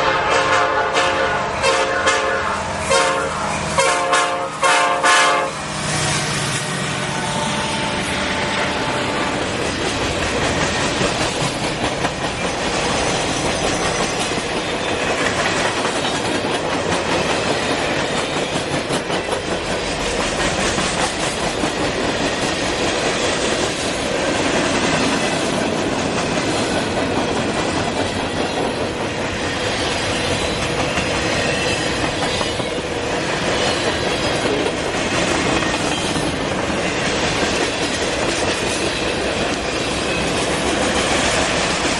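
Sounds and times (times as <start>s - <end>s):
rumble of train wheels on rail: 0.0s - 41.9s.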